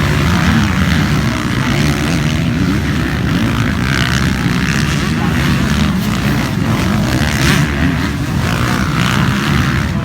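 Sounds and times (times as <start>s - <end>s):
motorcycle engines droning: 0.0s - 10.0s.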